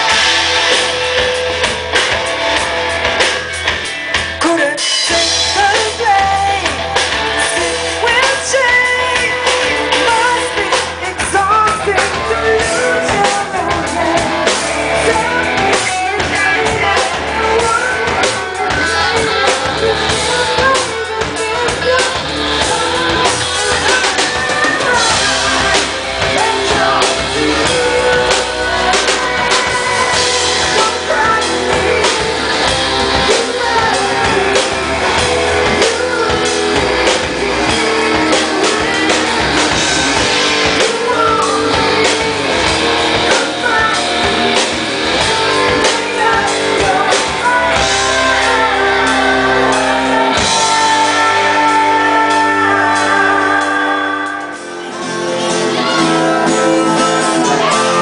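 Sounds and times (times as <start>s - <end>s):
live rock band playing: 0.0s - 58.0s
woman singing: 4.4s - 58.0s.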